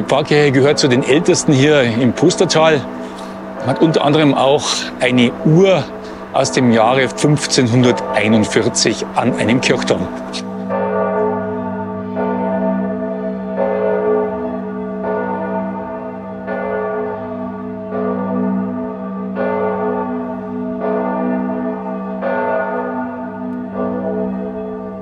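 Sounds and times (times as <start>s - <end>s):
church bell tolling: 0.0s - 25.0s.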